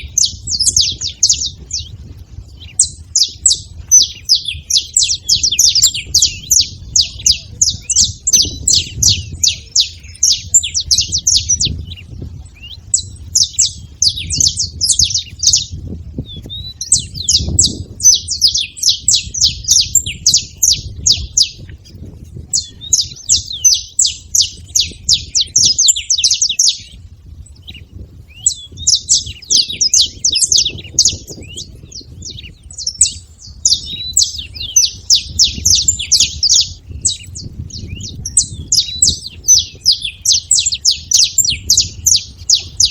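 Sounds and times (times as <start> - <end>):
finch chirping: 0.0 - 42.9.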